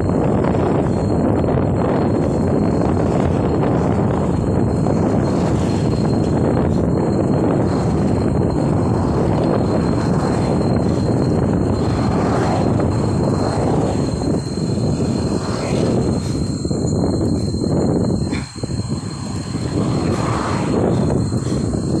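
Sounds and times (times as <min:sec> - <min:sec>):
cars passing: 0:00.0 - 0:22.0
wind rushing over microphone: 0:00.0 - 0:22.0.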